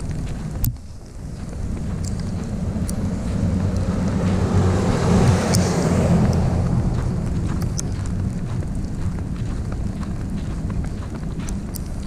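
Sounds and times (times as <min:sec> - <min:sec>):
vehicle passing on slushy street: 0:00.0 - 0:11.7
wind rumble on microphone: 0:00.0 - 0:12.0.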